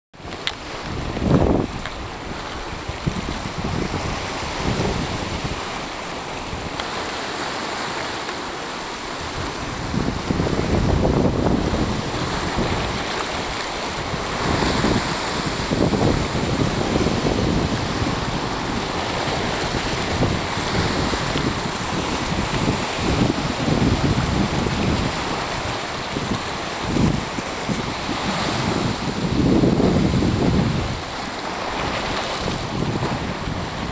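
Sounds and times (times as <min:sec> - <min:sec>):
wind buffeting microphone: 0:00.2 - 0:08.1, 0:08.8 - 0:33.9
sea washing against rocks: 0:00.2 - 0:33.9.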